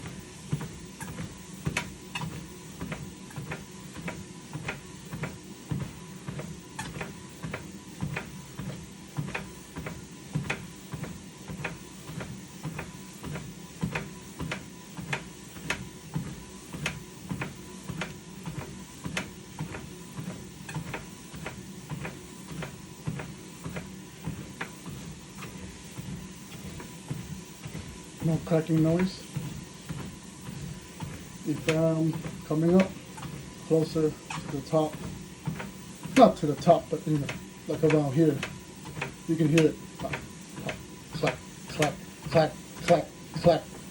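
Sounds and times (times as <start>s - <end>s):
treadmill deck knocking: 0.0s - 43.9s
treadmill motor and belt hum: 0.0s - 43.9s.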